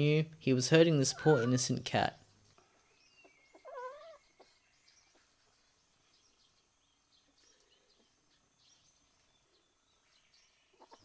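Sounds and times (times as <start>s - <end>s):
faint bird chirps: 0.9s - 11.0s.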